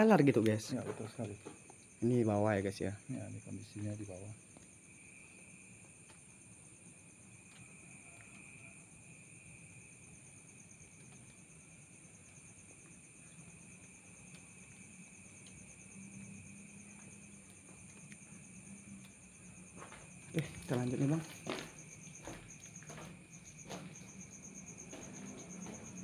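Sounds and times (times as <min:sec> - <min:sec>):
high insect chorus trilling: 0:00.0 - 0:26.0.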